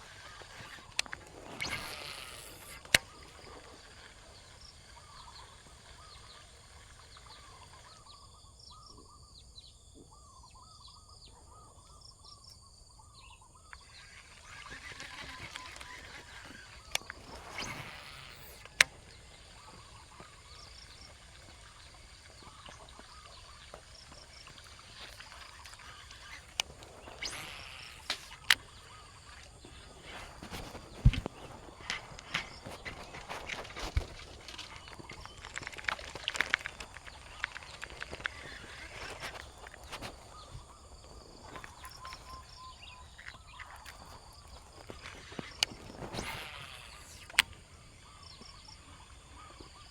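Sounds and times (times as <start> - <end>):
brief rustle: 0.0 - 8.0, 13.8 - 48.6
sharp clicks: 0.0 - 8.0, 13.7 - 47.6
faint chirping calls: 0.0 - 49.9.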